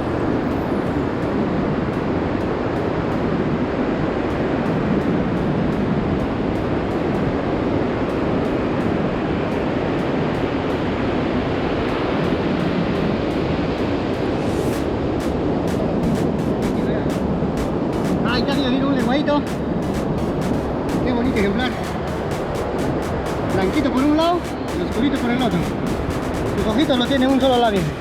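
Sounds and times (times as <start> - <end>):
surf washing onto beach: 0.0 - 28.0.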